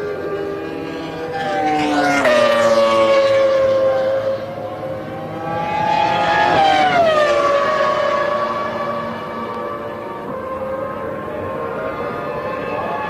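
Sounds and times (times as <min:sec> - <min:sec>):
racing engine at high revs: 0:00.0 - 0:13.0.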